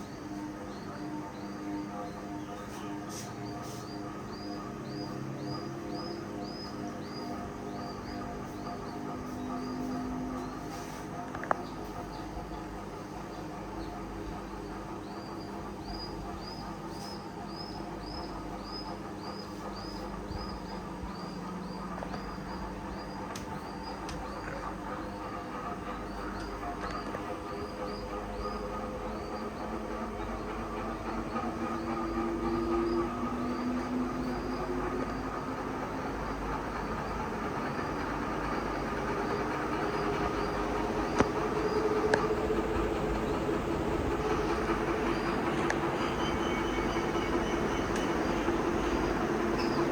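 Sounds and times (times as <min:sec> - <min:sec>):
ceiling fan humming: 0:00.0 - 0:49.9.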